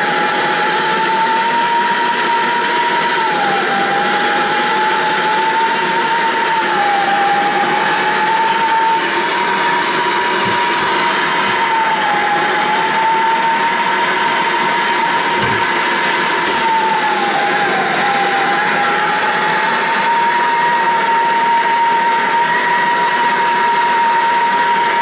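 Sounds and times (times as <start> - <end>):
plumbing torch hissing: 0.0 - 25.0.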